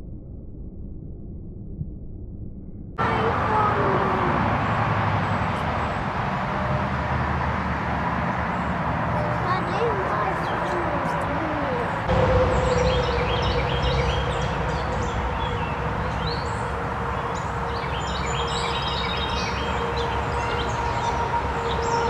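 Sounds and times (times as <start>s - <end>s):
low rumble: 0.0s - 7.4s, 10.7s - 22.0s
birds chirping: 3.0s - 22.0s.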